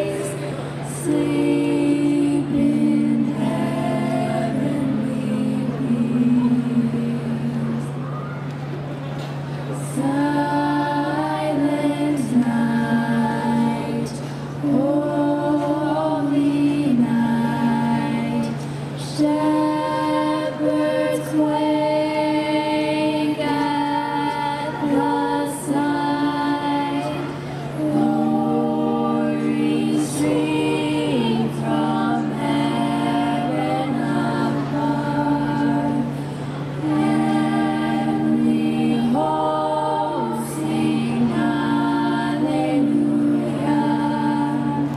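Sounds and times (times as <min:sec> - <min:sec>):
steady low hum: 0:00.0 - 0:44.9
youth choir singing in harmony: 0:00.0 - 0:44.9.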